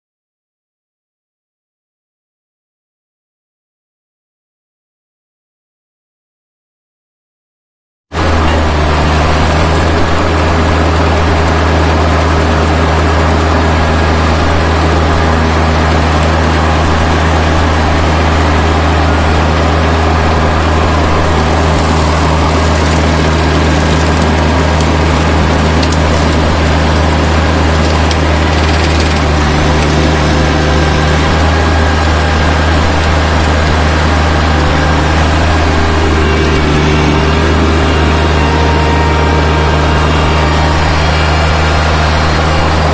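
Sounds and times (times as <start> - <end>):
tractor engine running: 8.2 - 42.9.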